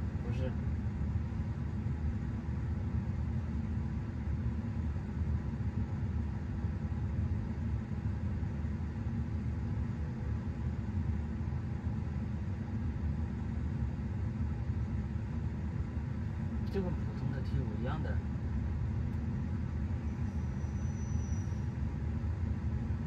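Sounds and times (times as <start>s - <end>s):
car cabin rumble and hiss: 0.0s - 23.0s
faint constant hum: 0.0s - 23.0s.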